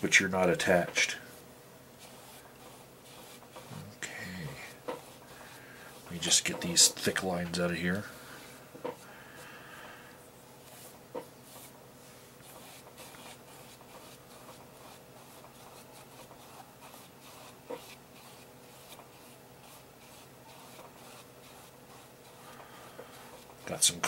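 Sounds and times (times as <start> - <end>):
paintbrush strokes on canvas: 2.0 - 9.8, 10.6 - 24.0.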